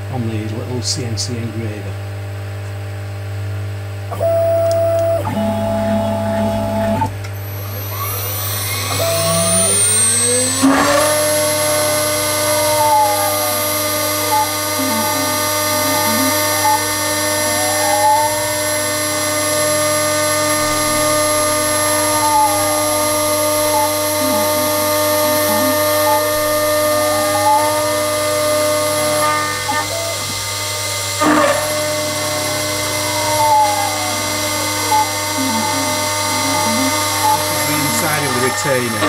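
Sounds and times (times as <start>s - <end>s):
spindle whine: 0.0s - 39.0s
motor whine sweeping in pitch: 2.1s - 39.0s
end mill cutting brass: 4.2s - 39.0s.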